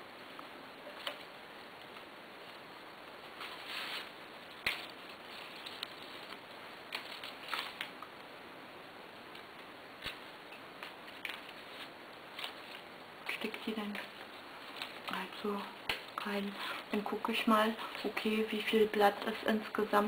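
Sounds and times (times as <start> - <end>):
stems and leaves rustling: 0.8 - 8.4, 9.2 - 20.0.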